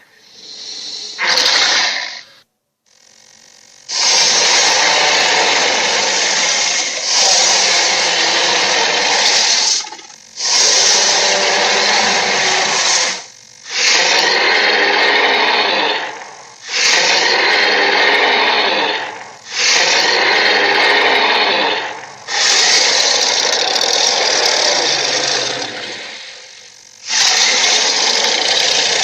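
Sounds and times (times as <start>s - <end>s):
dinosaur roars: 3.9s - 26.2s, 27.1s - 29.0s.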